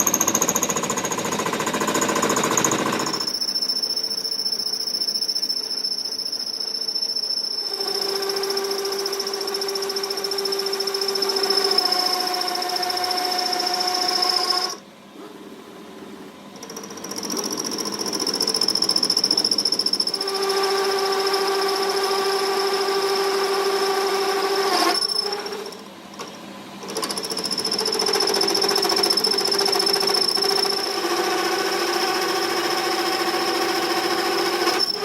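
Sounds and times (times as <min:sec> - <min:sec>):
workshop machine whining: 0:00.0 - 0:35.0.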